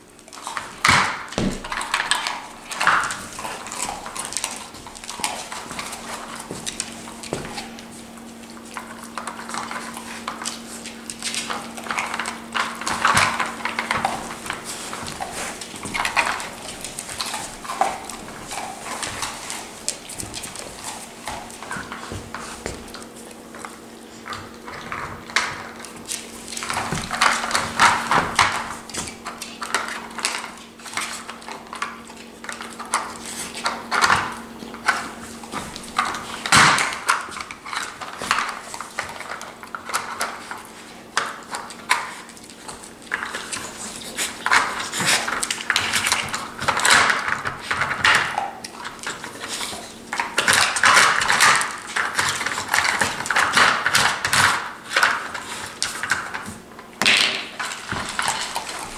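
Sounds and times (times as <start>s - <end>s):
dogs sniffing: 0.3s - 56.7s.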